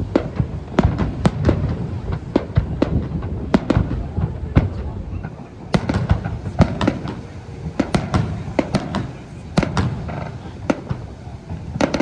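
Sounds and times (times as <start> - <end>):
fireworks bangs and pops: 0.0 - 12.0
low continuous rumble: 0.0 - 12.0.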